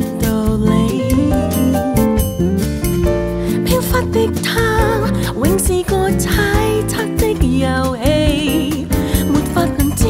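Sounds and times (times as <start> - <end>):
woman singing: 0.0 - 2.6, 3.5 - 10.0
drums: 0.0 - 10.0
electric bass: 0.0 - 10.0.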